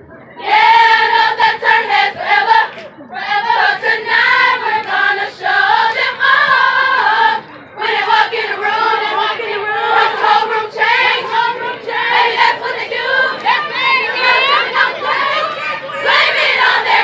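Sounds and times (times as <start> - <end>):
women singing in unison: 0.4 - 17.0.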